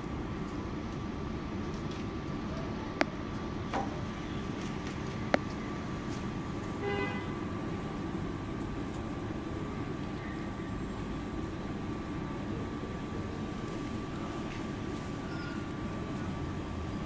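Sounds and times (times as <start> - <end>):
faint constant hum: 0.0 - 17.0
low outdoor rumble: 0.0 - 17.0.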